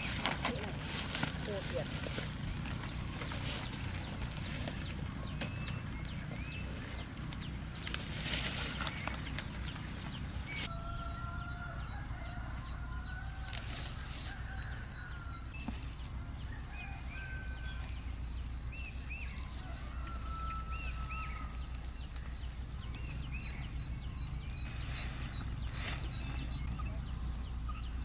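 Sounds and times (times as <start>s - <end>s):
steady low rumble: 0.0s - 11.0s, 13.7s - 28.0s
birds chirping and whistling: 0.0s - 28.0s.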